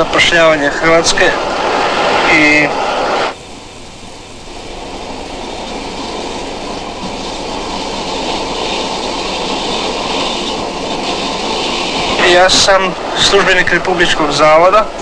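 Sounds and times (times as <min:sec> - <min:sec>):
train rushing noise: 0:00.0 - 0:15.0.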